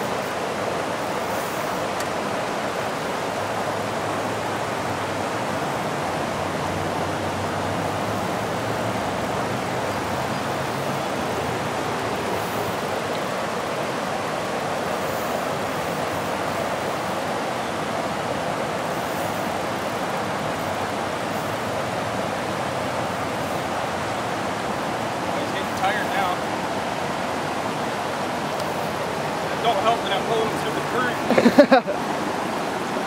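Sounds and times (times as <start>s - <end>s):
river water rushing over weir: 0.0s - 33.0s.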